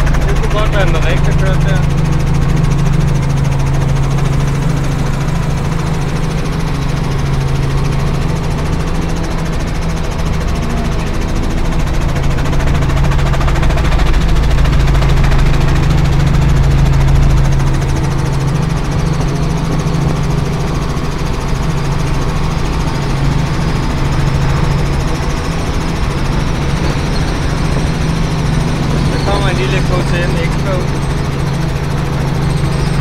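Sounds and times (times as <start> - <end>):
helicopter engine and rotor drone: 0.0 - 33.0.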